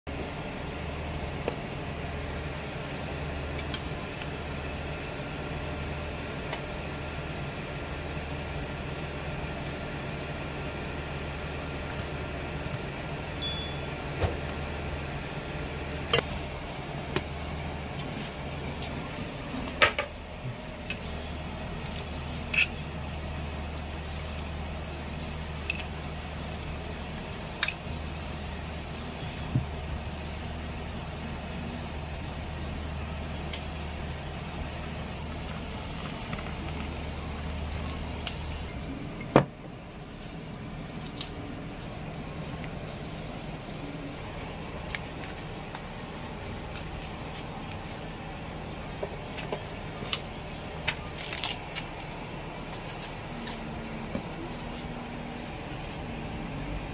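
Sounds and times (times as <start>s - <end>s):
steady low hum: 0.1s - 56.9s.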